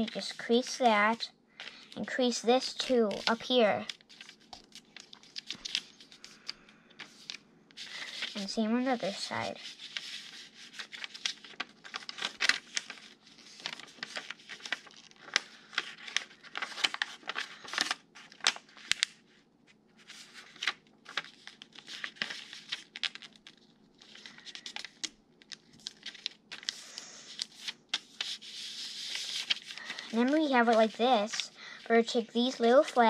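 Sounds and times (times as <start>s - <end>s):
paper crinkling as folded: 0.0s - 33.0s.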